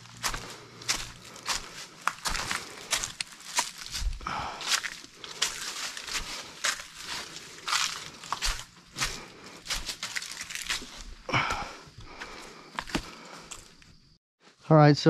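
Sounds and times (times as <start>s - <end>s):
footsteps on dry leaves and stones: 0.0s - 13.8s.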